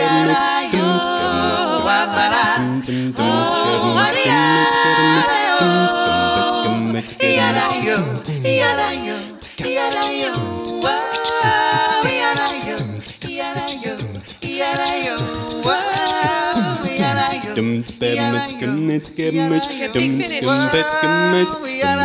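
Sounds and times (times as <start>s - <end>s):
a cappella group singing: 0.0s - 22.0s.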